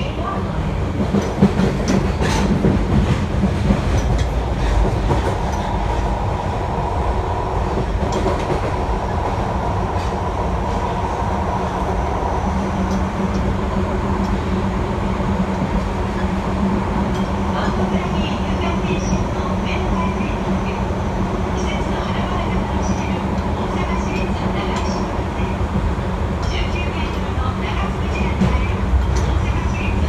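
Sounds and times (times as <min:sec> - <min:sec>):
train wheels rumbling on rail: 0:00.0 - 0:30.0
rail joint clicks: 0:00.9 - 0:06.3, 0:07.5 - 0:11.0, 0:11.6 - 0:20.1, 0:21.5 - 0:30.0.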